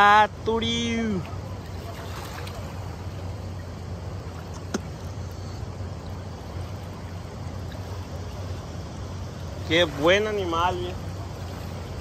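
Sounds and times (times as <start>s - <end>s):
river water rushing: 0.0s - 12.0s
wind: 0.0s - 12.0s.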